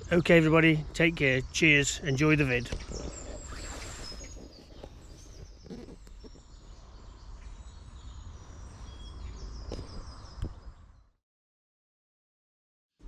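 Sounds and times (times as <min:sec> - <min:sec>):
songbirds chirping: 0:00.0 - 0:11.2.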